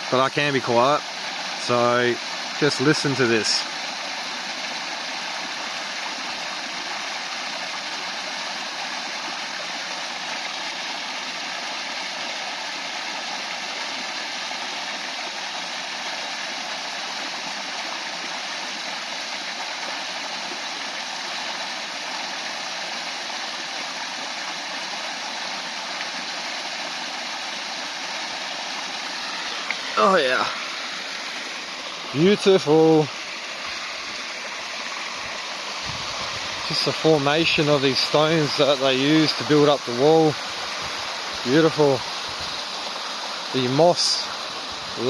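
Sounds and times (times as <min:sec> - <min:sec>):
stream flowing over stones: 0:00.0 - 0:45.0.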